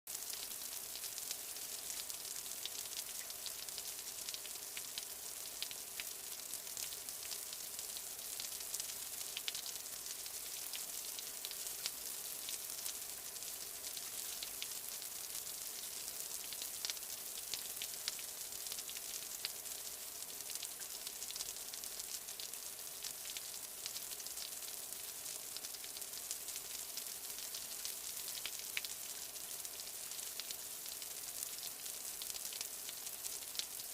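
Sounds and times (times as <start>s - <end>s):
light rain falling: 0.1s - 33.9s.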